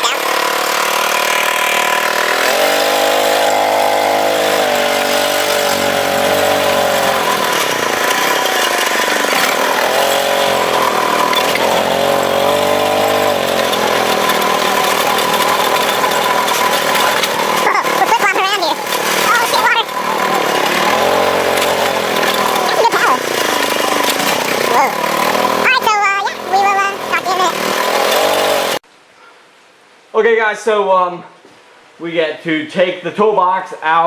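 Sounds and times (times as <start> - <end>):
riding mower engine running: 0.0 - 28.8.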